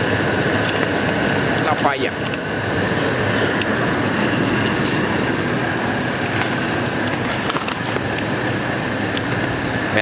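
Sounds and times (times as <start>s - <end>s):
car engine idling with misfire: 0.0s - 10.0s
steady high-pitched tone: 1.0s - 10.0s.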